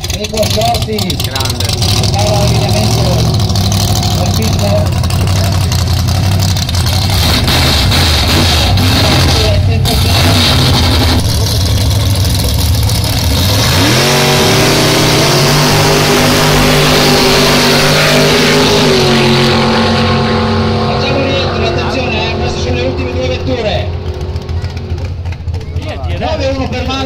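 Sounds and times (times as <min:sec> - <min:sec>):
drag racing cars accelerating: 0:00.0 - 0:27.0.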